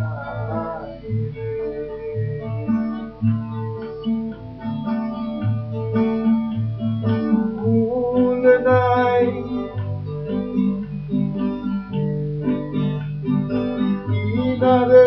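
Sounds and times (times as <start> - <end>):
acoustic guitar strumming: 0.0 - 15.0
wavering melody line: 0.0 - 15.0.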